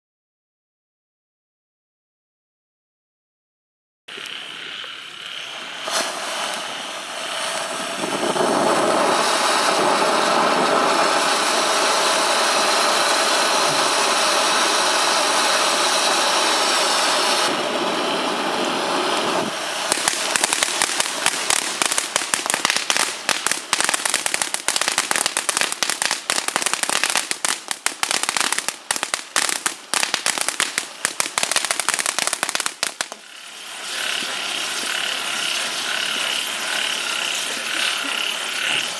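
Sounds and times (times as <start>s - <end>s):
firework crackling rapidly: 4.1s - 38.9s
firework hissing: 4.1s - 38.9s.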